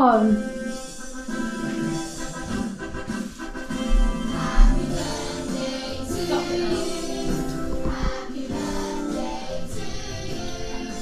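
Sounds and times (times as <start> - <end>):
music with singing: 0.0 - 11.0.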